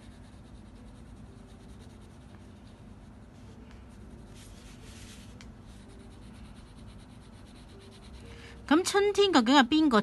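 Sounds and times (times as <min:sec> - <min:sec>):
pencil scratching on paper: 0:00.0 - 0:08.3.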